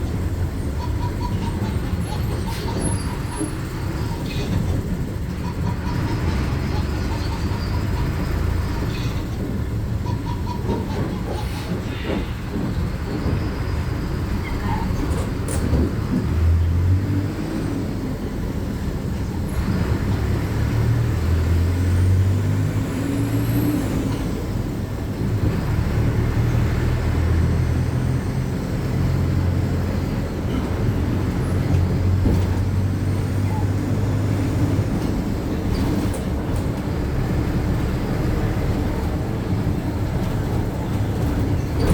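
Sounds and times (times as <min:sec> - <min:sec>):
bus engine low hum: 0:00.0 - 0:41.9
bus road rumble and rattling: 0:00.0 - 0:41.9.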